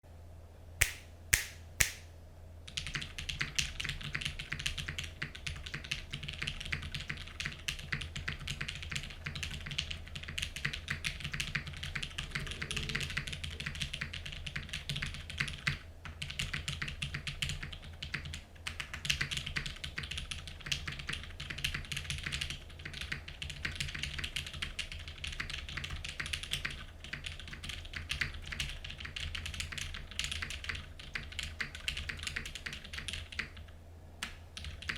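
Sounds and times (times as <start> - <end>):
mechanical keyboard typing: 2.7 - 34.9.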